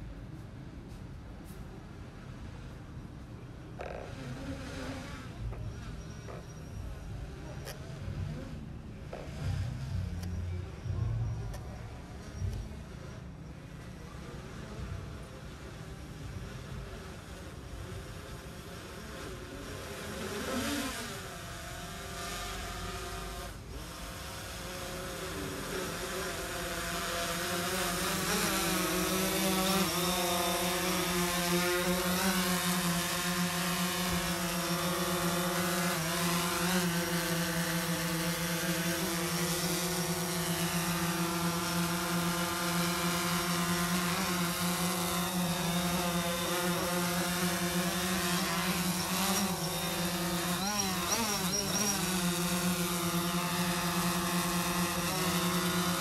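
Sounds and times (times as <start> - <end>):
buzzing drone: 3.7 - 13.2, 13.8 - 56.0.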